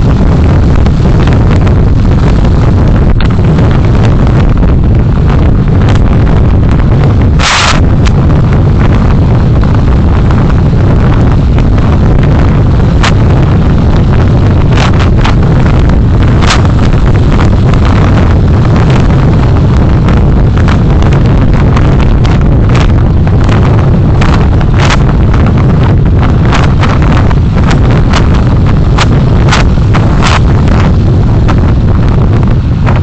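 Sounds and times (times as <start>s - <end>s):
wind and road noise rumble: 0.0s - 33.0s.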